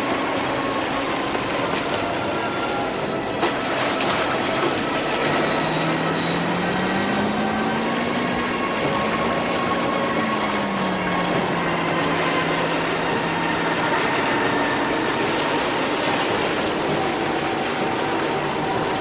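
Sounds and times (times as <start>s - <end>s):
powerboat engines running hard: 0.0s - 19.0s
water rushing and spraying: 0.0s - 19.0s.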